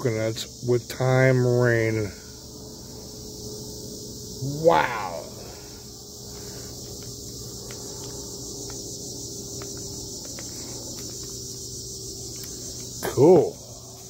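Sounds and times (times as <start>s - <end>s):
crickets trilling: 0.0s - 14.0s
faint steady hum: 0.0s - 14.0s.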